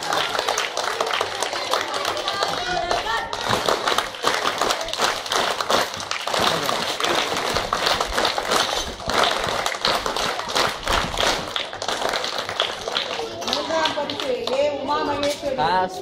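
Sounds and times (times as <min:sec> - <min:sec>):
crowd clapping: 0:00.0 - 0:15.4
background chatter: 0:00.0 - 0:16.0.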